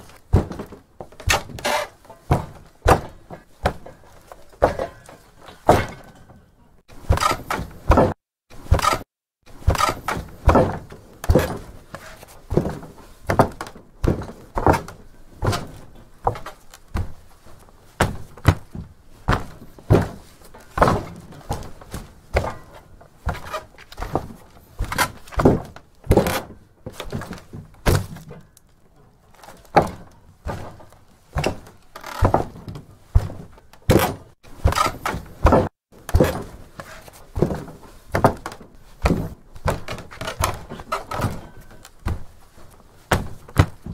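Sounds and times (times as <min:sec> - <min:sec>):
footsteps on wooden floor: 0:00.0 - 0:06.2, 0:07.0 - 0:28.4, 0:29.4 - 0:43.9.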